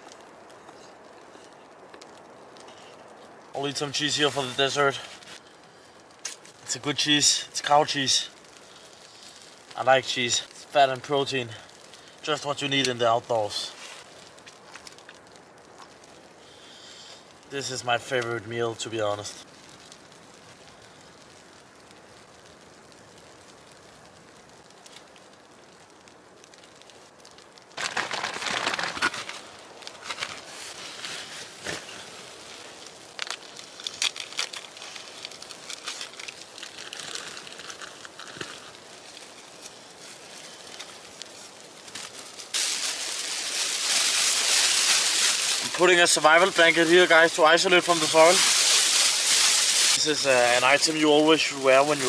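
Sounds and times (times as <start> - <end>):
foil blanket crinkling: 0.0 - 7.0, 8.3 - 17.4, 24.6 - 52.0
faint steady hiss: 0.0 - 52.0.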